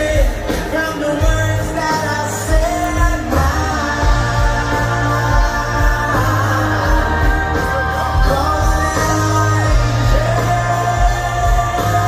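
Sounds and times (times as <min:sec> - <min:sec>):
live rock band over loudspeakers: 0:00.0 - 0:12.0
person singing: 0:00.0 - 0:12.0
steady drum beat: 0:00.0 - 0:12.0.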